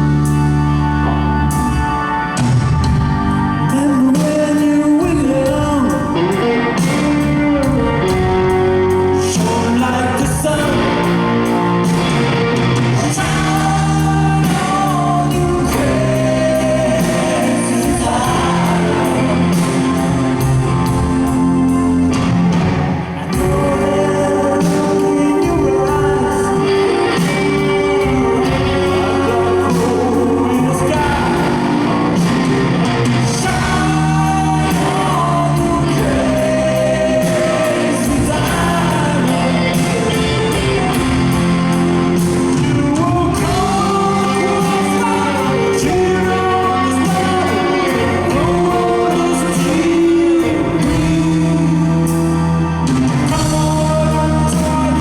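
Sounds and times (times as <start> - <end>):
lead vocal singing: 0.0 - 55.0
rock band playing live: 0.0 - 55.0.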